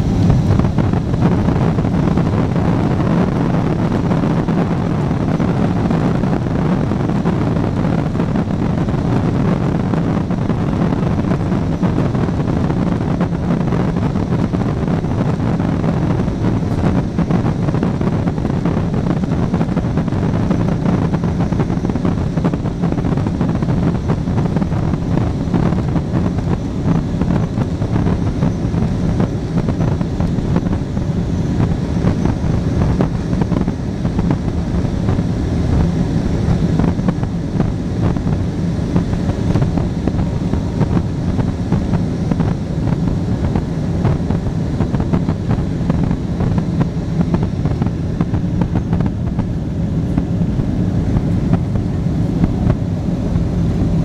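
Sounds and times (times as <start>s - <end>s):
jet engine and airflow rush: 0.0s - 54.0s
low rumble: 0.0s - 54.0s.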